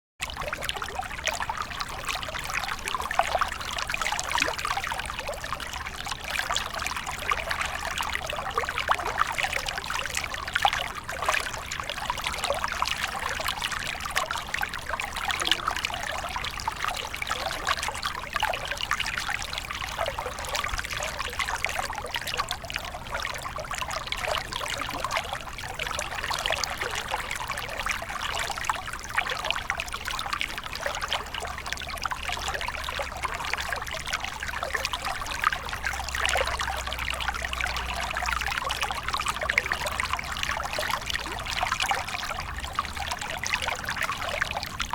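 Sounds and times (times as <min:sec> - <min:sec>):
water trickling: 0:00.2 - 0:44.9.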